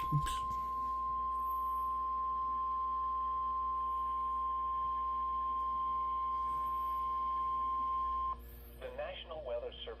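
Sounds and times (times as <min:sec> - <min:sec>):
steady radio alarm beep: 0:00.0 - 0:08.5.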